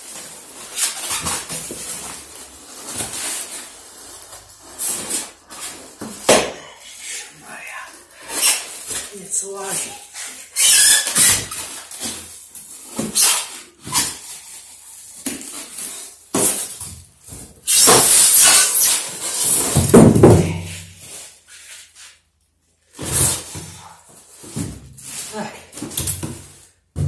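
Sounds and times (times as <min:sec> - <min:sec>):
polystyrene foam scraping: 0:00.0 - 0:26.9
plastic wrapping rustling: 0:00.0 - 0:27.0.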